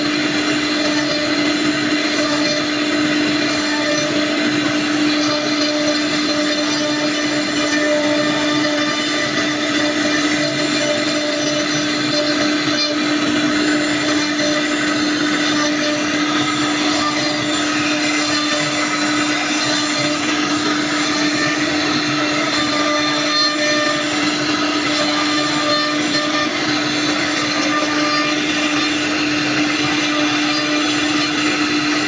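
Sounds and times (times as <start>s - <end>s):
bit cutting wood: 0.0s - 32.0s
router spindle hum: 0.0s - 32.0s.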